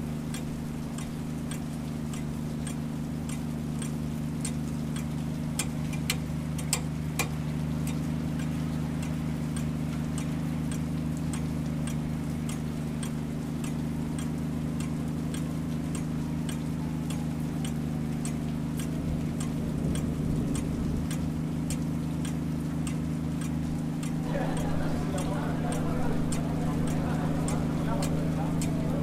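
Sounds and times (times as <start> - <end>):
regular ticking: 0.0 - 29.0
steady low hum: 0.0 - 29.0.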